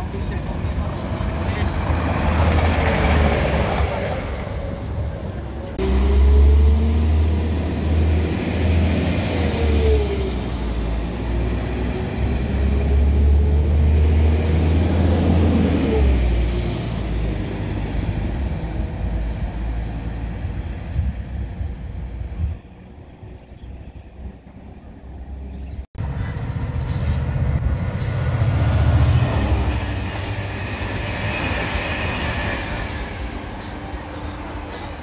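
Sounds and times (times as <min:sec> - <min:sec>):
diesel train engine rumble: 0:00.0 - 0:35.0.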